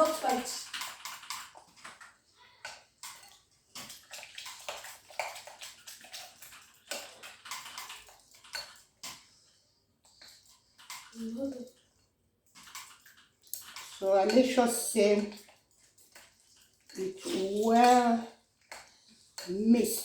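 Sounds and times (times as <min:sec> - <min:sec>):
wet stirring strokes: 0:00.0 - 0:20.0.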